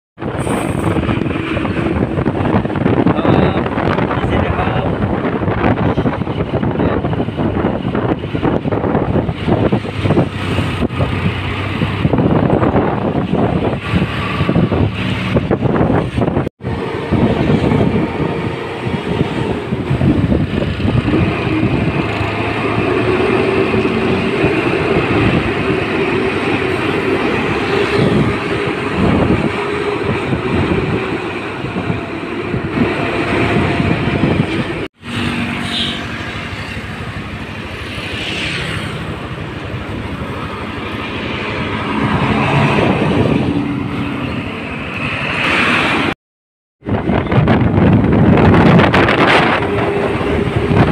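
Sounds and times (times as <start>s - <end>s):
road noise: 0.2s - 46.2s, 46.8s - 50.9s
truck diesel engine under load: 0.2s - 46.2s, 46.9s - 50.9s
wind noise: 0.2s - 46.2s, 46.8s - 50.9s.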